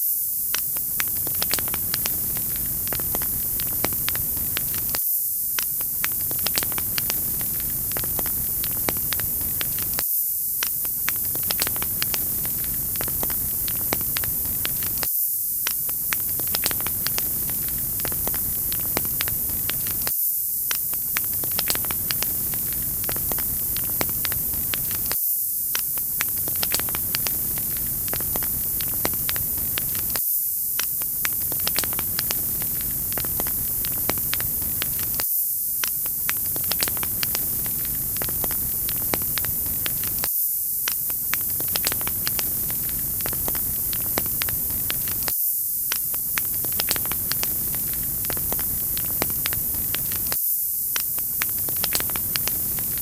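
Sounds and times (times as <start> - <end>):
wood fire crackling: 0.6 - 5.0, 5.6 - 10.0, 10.6 - 20.1, 20.7 - 25.2, 25.8 - 30.2, 30.8 - 35.2, 35.8 - 40.3, 40.9 - 45.3, 46.0 - 53.0.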